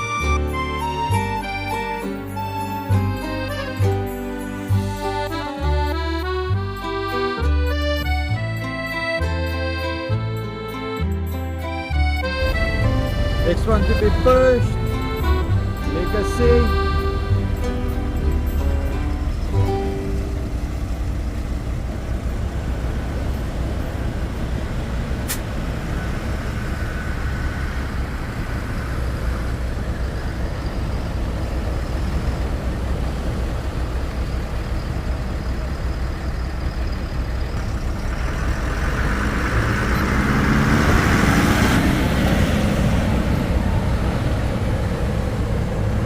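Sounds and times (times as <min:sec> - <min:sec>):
tractor engine working: 0:00.0 - 0:46.0
wind: 0:00.0 - 0:46.0.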